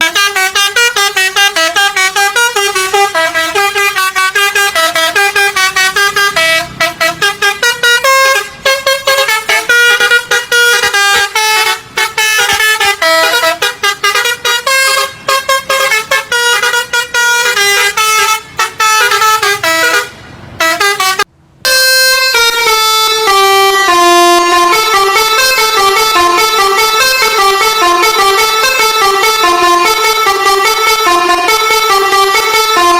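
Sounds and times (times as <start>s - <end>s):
bus multi-tone horn tune: 0.0s - 32.9s.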